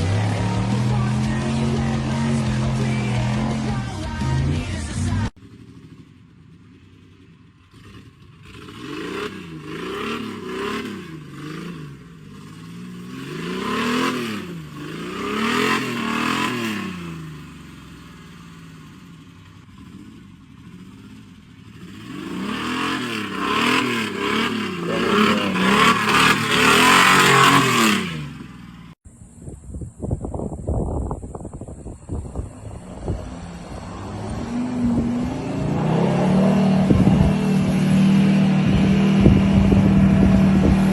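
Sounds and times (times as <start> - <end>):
off-road vehicle engine revving: 0.0 - 29.0, 31.4 - 40.9.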